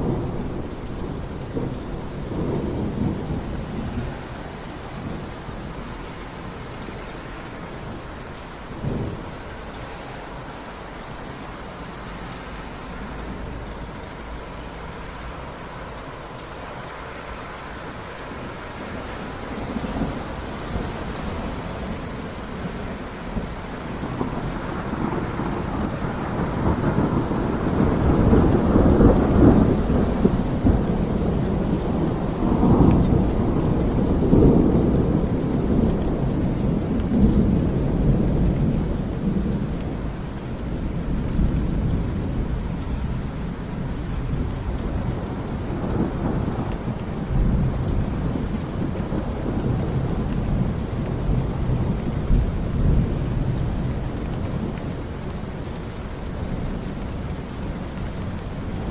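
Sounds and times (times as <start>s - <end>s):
steady rain: 0.0s - 58.9s
wind: 0.0s - 58.9s.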